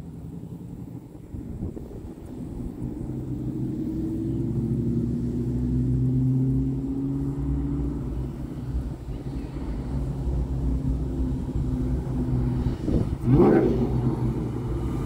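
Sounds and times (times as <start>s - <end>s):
car engine exhaust note: 0.0s - 15.0s.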